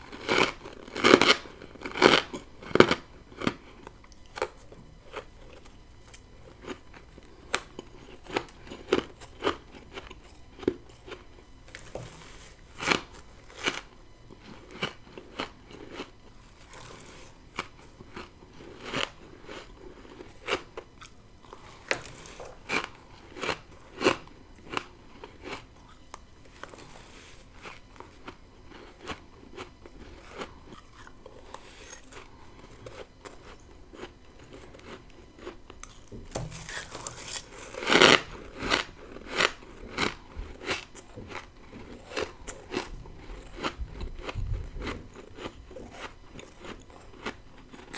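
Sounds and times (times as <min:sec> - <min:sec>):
crunching frost being chewed: 0:00.0 - 0:47.9.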